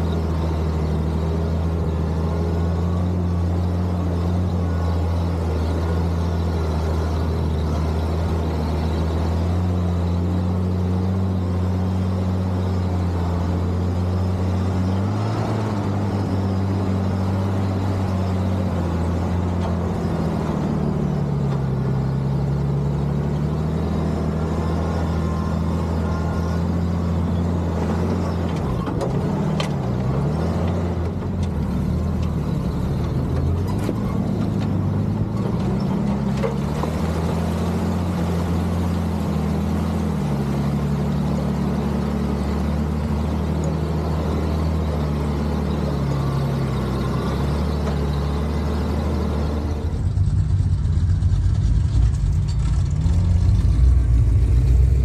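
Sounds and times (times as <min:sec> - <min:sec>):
truck engine under load: 0:00.0 - 0:55.0.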